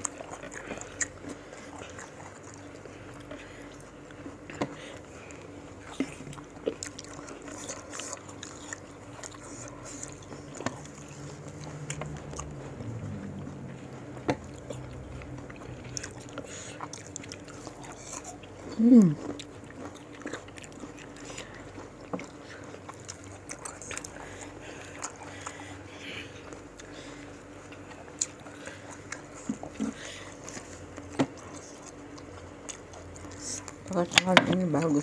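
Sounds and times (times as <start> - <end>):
biting and chewing fruit: 0.0 - 35.0.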